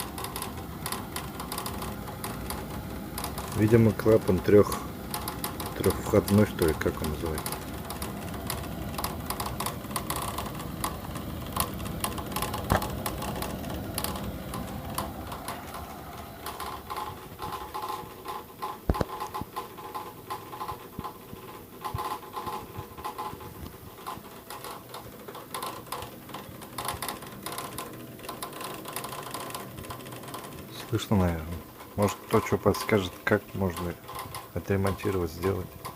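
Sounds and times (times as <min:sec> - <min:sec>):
boiler humming: 0:00.0 - 0:35.9
rattling clatter inside boiler: 0:00.0 - 0:35.9.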